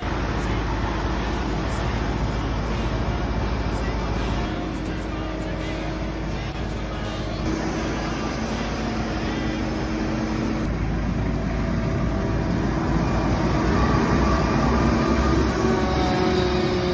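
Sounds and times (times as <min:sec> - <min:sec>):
heavy vehicle engine running: 0:00.0 - 0:16.9.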